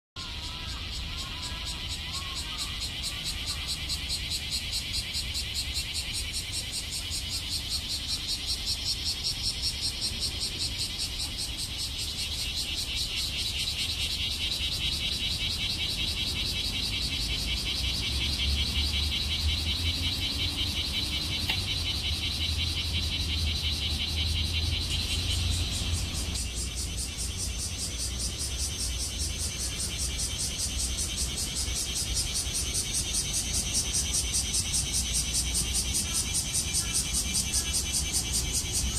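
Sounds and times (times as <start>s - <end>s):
cicadas buzzing: 0.2s - 38.9s.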